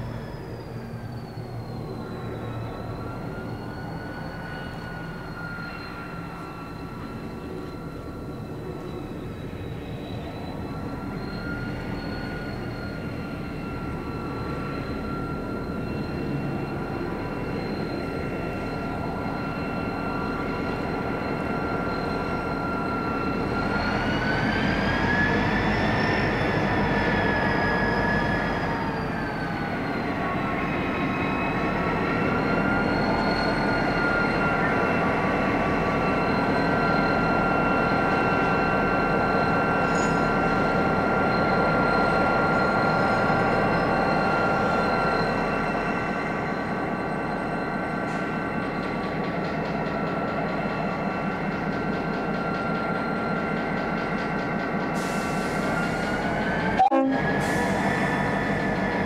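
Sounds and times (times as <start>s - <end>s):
diesel locomotive engines droning: 0.0s - 59.0s
high engine whine: 0.0s - 59.0s.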